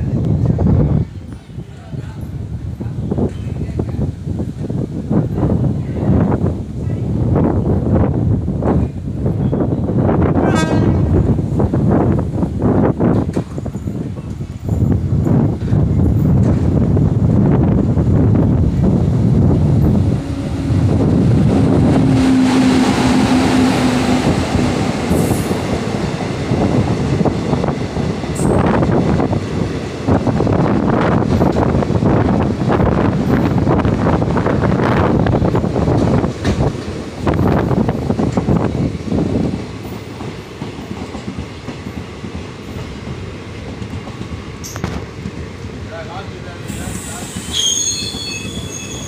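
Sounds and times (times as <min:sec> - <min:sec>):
train wheels rumbling on rails: 0:00.0 - 0:49.0
locomotive hum: 0:07.0 - 0:49.0.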